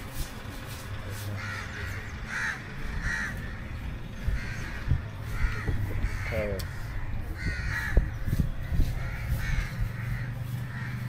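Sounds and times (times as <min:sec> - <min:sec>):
low steady rumble: 0:00.0 - 0:11.0
crows cawing: 0:01.4 - 0:11.0.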